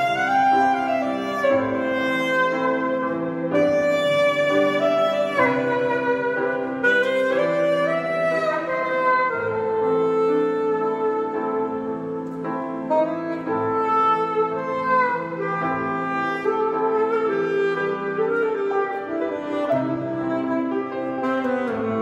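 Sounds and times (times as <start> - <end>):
piano chords: 0.0 - 22.0
saxophone slow melody: 0.0 - 22.0.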